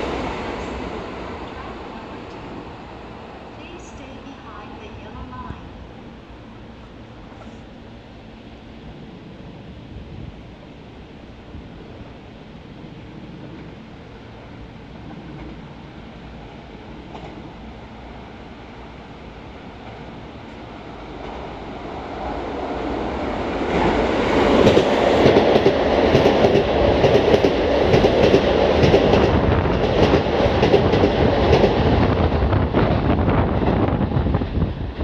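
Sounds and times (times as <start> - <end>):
electric train passing rumble: 0.0 - 35.0.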